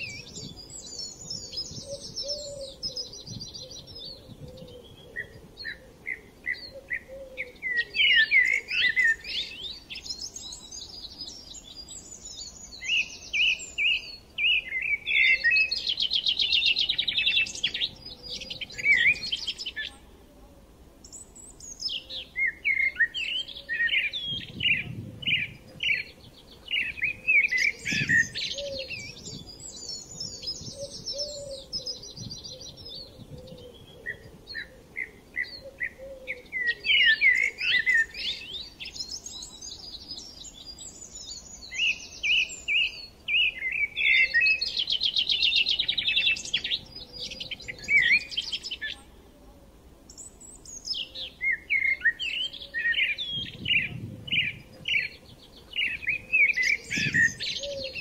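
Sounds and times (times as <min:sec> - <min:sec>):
small birds chirping: 0:00.0 - 0:20.2, 0:21.0 - 0:49.2, 0:50.0 - 0:58.0.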